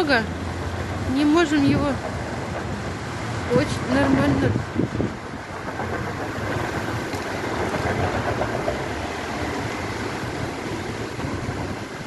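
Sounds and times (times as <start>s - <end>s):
traffic passing: 0.0s - 12.0s.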